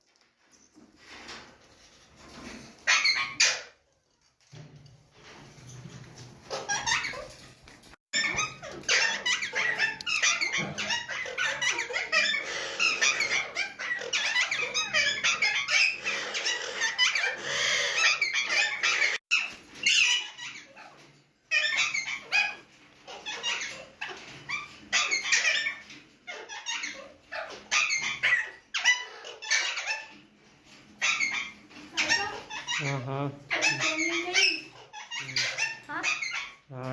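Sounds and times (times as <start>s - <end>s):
parakeets squawking: 2.8s - 3.8s, 6.4s - 7.5s, 8.1s - 36.9s.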